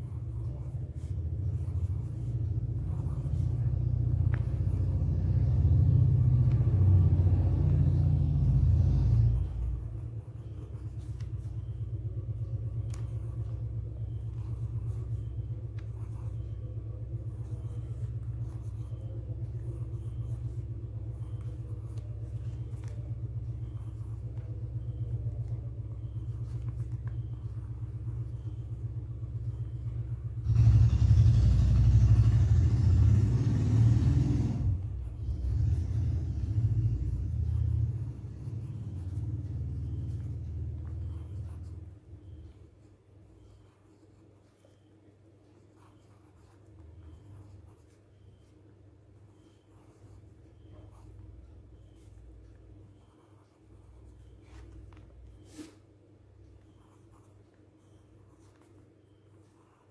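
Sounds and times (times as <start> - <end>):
low steady rumble: 0.0 - 59.9.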